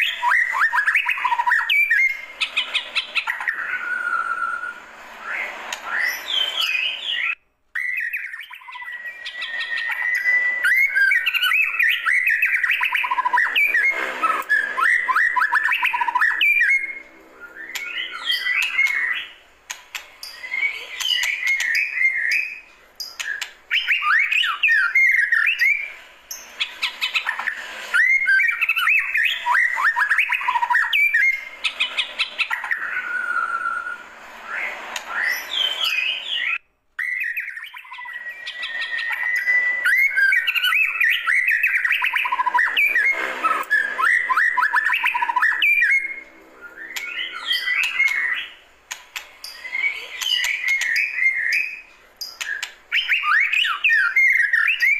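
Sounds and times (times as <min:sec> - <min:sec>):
held bird whistle: 0:00.0 - 0:19.4, 0:20.2 - 0:48.6, 0:49.5 - 0:54.9
songbird whistling and chattering: 0:00.0 - 0:54.9.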